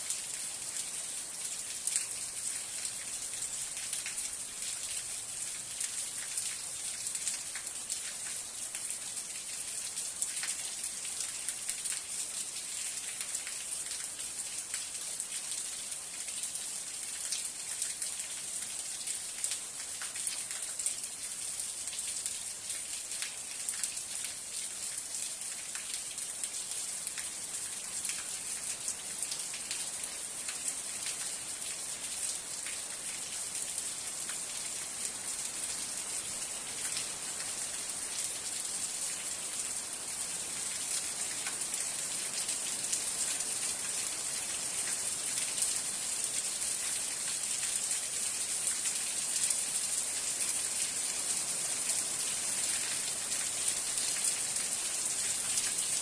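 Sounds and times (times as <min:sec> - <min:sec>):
rain hissing on a surface: 0:00.0 - 0:56.0.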